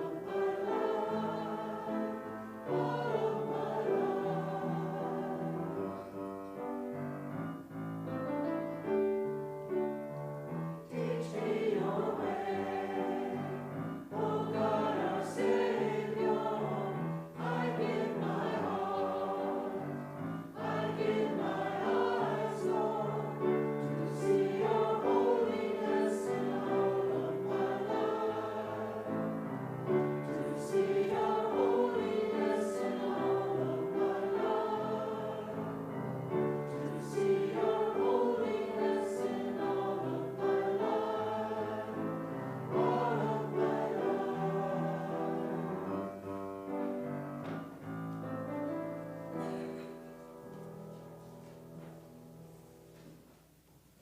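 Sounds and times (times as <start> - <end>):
congregation singing a hymn: 0.0 - 7.6, 8.3 - 53.3.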